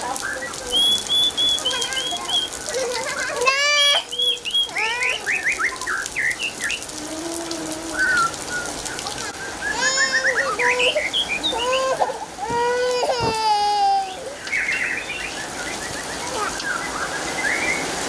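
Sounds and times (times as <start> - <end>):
birds chirping: 0.0 - 18.0
rain falling on puddles: 0.0 - 18.0.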